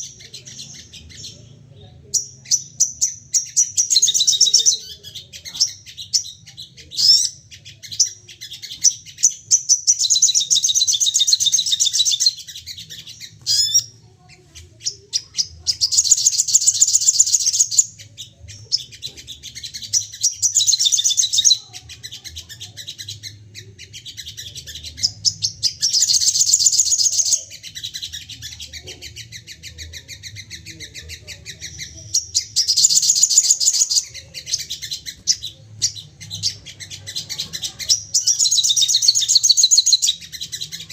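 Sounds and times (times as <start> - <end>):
bird chattering trills: 0.0 - 40.9
sharp bird chips: 2.2 - 13.9, 14.8 - 23.3, 24.0 - 40.9.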